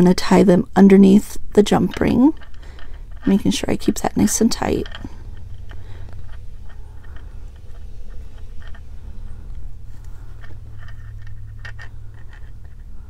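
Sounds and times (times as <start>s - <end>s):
steady low hum: 0.0s - 13.0s
fingers scratching and clicking cord: 1.7s - 13.0s.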